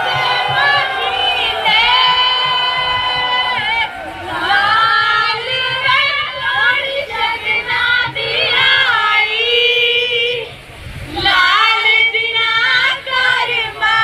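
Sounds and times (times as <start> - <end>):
women singing folk song: 0.0 - 14.0.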